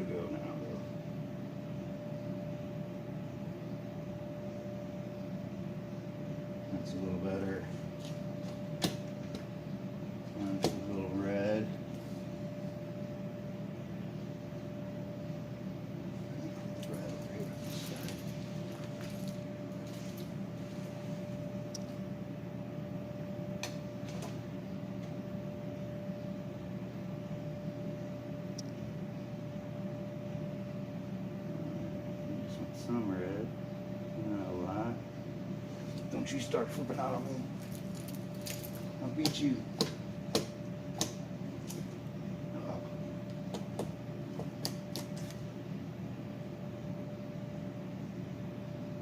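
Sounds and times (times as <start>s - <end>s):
monitor electrical hum and buzz: 0.0s - 49.0s.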